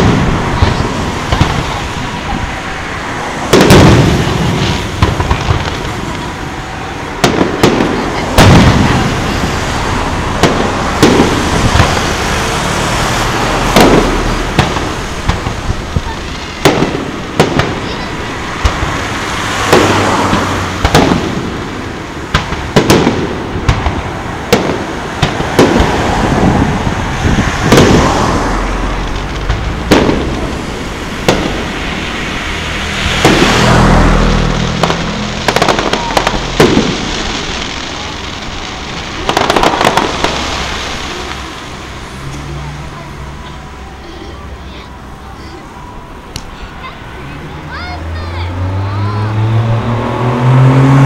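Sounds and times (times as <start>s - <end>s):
firework crackle: 0.0s - 50.1s
firework bangs: 0.0s - 50.2s.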